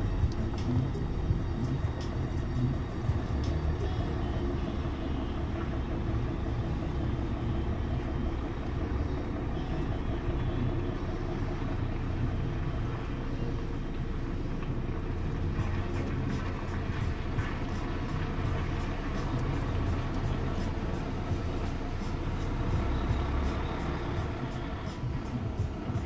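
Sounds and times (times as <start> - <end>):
diesel trucks idling: 0.0 - 26.0.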